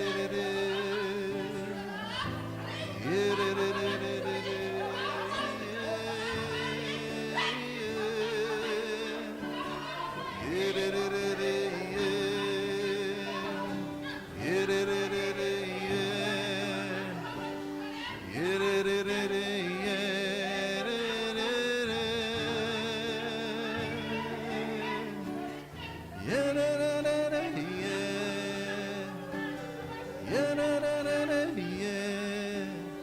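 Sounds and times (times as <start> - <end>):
person singing wordless notes: 0.0 - 33.0.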